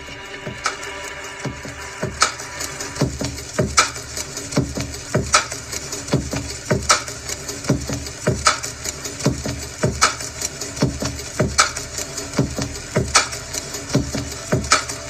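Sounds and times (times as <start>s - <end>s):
slow electronic beat: 0.0s - 15.0s.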